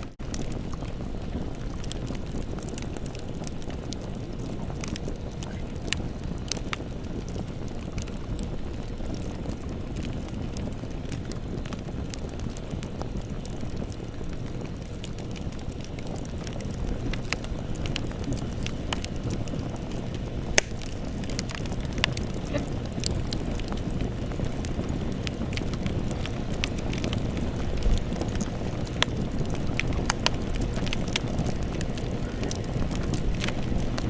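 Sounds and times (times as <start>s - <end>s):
burning wood crackling and popping: 0.0s - 34.0s
low rush of flames: 0.0s - 34.0s.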